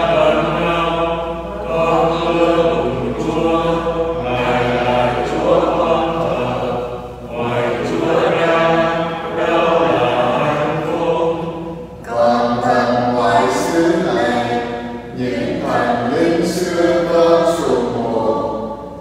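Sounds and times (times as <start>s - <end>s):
choir chanting long notes: 0.0s - 19.0s.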